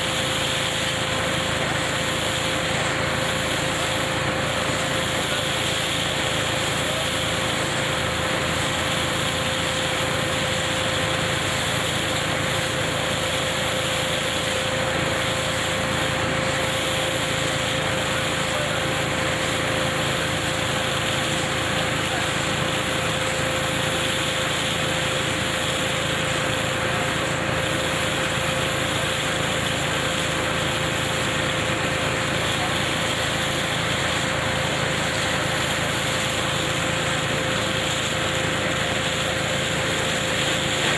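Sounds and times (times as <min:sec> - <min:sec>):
harvesting machine running: 0:00.0 - 0:40.9.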